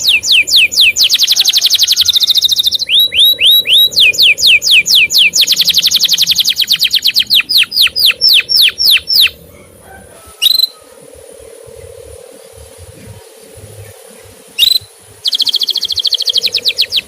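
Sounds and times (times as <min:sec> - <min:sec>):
canary chirping: 0:00.0 - 0:09.4, 0:12.5 - 0:17.0
faint steady hum: 0:00.0 - 0:17.0.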